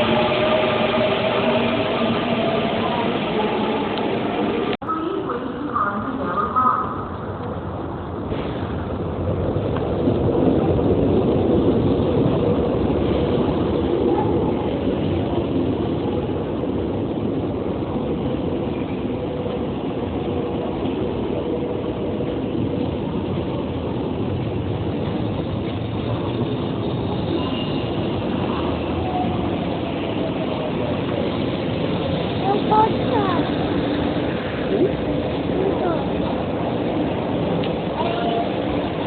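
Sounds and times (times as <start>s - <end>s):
train rumbling on rails: 0.0s - 39.0s.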